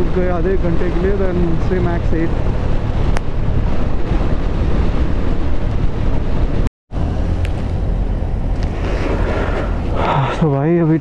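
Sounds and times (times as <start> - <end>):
motorcycle engine rumble: 0.0 - 11.0
wind rushing over microphone: 0.0 - 11.0.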